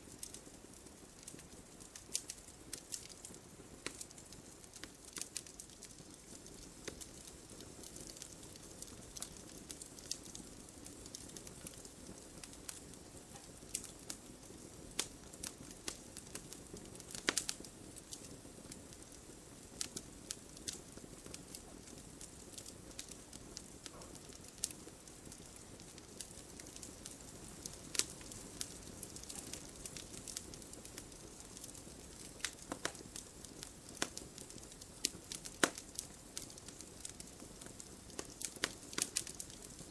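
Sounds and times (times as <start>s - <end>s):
wood crackling and popping: 0.0s - 39.9s
flames rushing: 0.2s - 39.9s.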